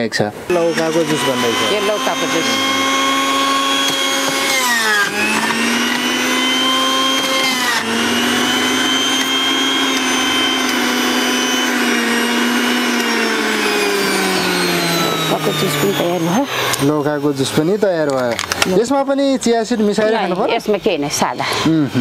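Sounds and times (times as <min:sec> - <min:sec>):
electric juicer motor whining: 0:00.5 - 0:22.0.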